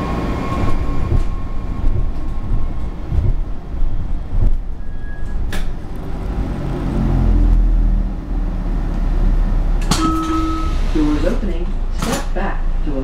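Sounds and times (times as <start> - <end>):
train low rumble: 0.0 - 13.0
brakes low whine: 0.5 - 12.0.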